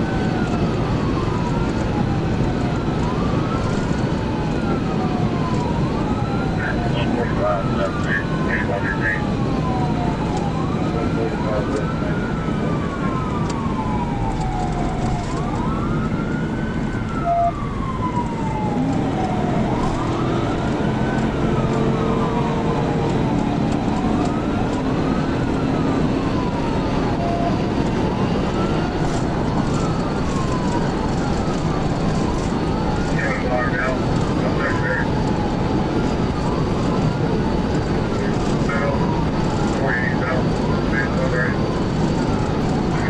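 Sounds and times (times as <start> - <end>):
police siren wailing: 0.0 - 43.0
road and engine noise: 0.0 - 43.0.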